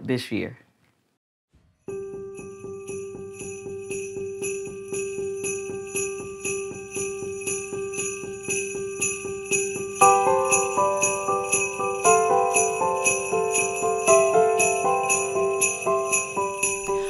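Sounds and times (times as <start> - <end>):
sleigh bells shaking: 2.4 - 17.0.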